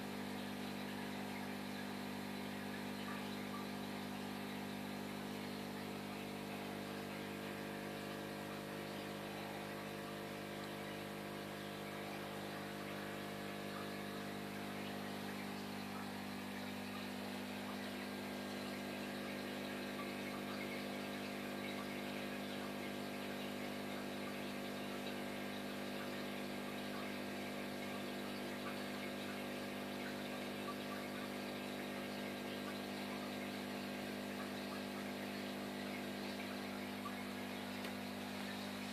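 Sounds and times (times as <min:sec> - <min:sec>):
air bubbles in tank water: 0:00.0 - 0:38.9
air pump electrical hum: 0:00.0 - 0:38.9.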